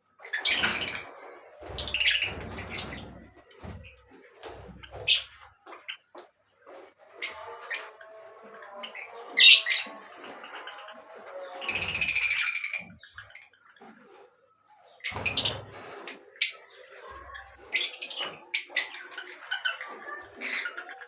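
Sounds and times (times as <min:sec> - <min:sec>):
birds chirping: 0:00.2 - 0:21.0.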